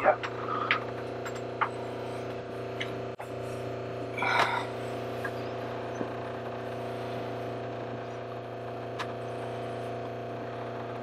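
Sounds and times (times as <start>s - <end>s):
water pump humming: 0.0s - 11.0s.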